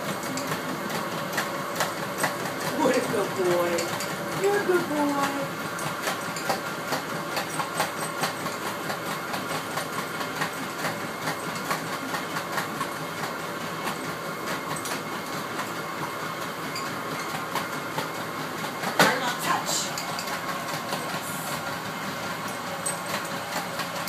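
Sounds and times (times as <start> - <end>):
treadmill motor whine: 0.0 - 24.0
dog footfalls on treadmill belt: 0.2 - 24.0.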